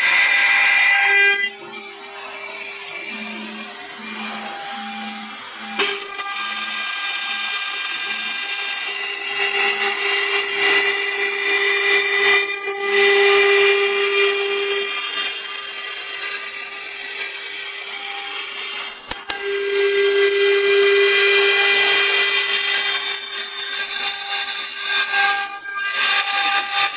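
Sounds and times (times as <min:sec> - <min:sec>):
router spindle whining cutting stone: 0:00.0 - 0:26.9.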